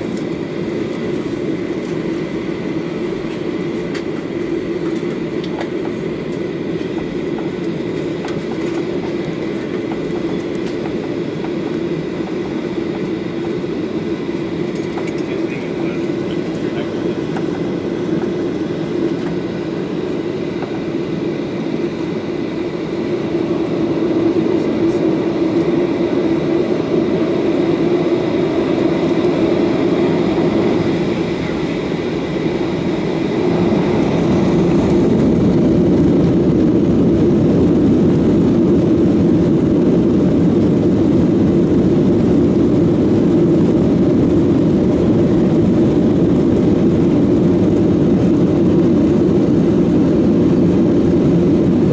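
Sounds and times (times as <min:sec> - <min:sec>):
jet engines spooling up: 0:00.0 - 0:51.9.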